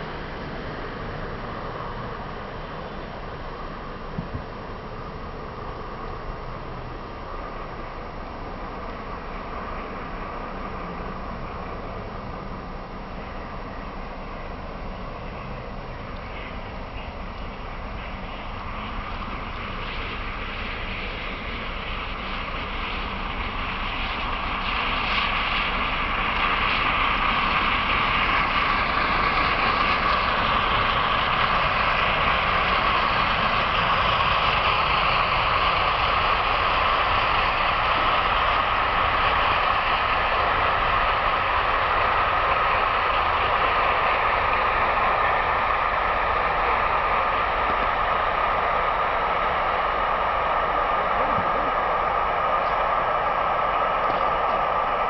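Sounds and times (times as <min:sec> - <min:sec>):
steam train passing at speed: 0:00.0 - 0:55.0.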